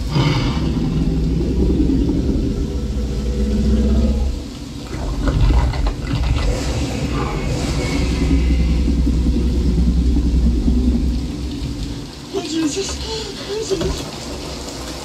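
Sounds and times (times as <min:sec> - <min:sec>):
deep bass rumble: 0:00.0 - 0:12.3
creature sounds: 0:00.0 - 0:14.1
rain: 0:00.0 - 0:15.0.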